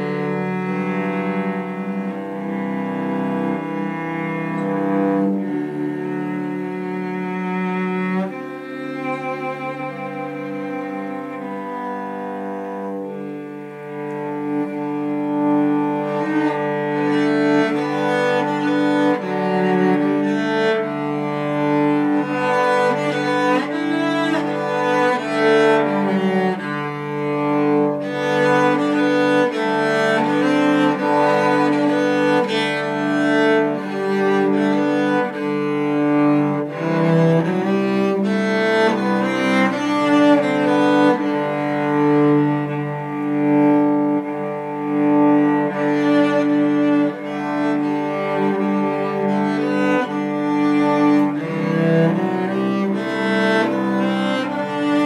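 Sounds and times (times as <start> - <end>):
cello playing sustained notes: 0.0 - 55.0.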